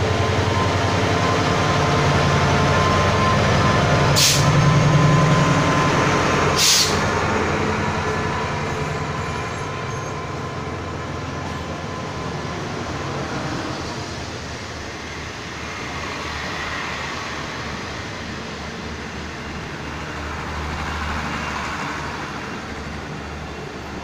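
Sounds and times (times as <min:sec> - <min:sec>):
locomotive engine drone: 0:00.0 - 0:24.0
train coaches rolling: 0:00.0 - 0:24.0.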